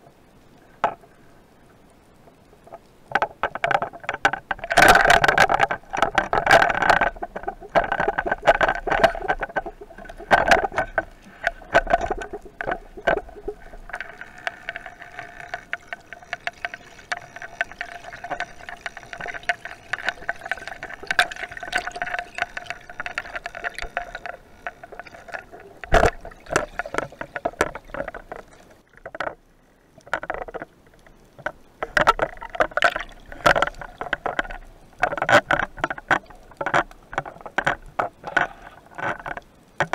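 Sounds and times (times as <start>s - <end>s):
underwater clicking and rattling: 0.0s - 1.3s, 2.1s - 39.9s.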